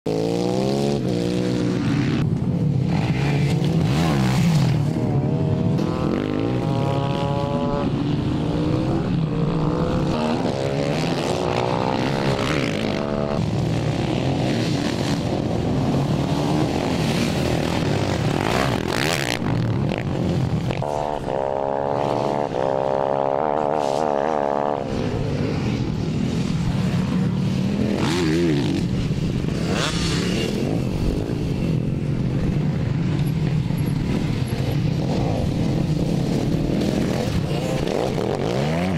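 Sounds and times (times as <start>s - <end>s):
motorcycle accelerating past: 0.1s - 31.8s, 34.0s - 38.9s
motorcycle engines droning: 0.1s - 38.9s.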